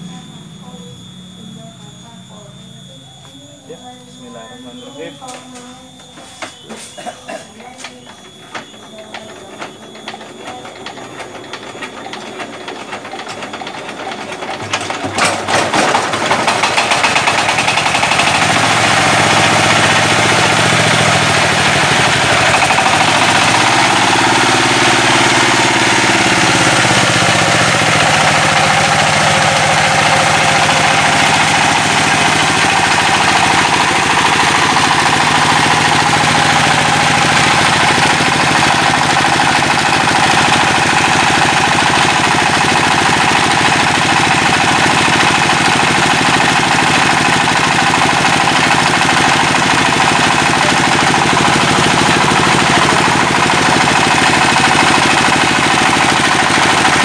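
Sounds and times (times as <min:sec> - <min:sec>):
diesel generator engine knocking: 0:03.0 - 0:57.0.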